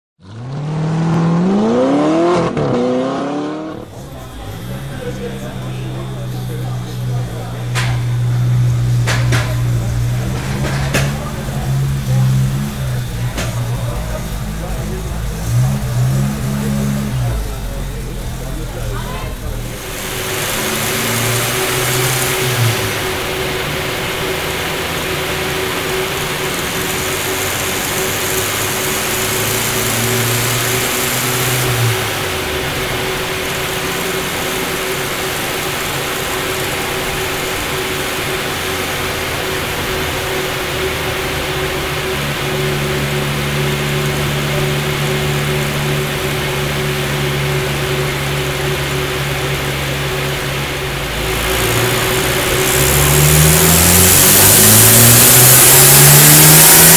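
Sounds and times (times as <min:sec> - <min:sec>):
turbocharged car engine running: 0:00.2 - 0:56.9
even rushing noise: 0:00.8 - 0:56.9
steady hum: 0:03.3 - 0:56.9.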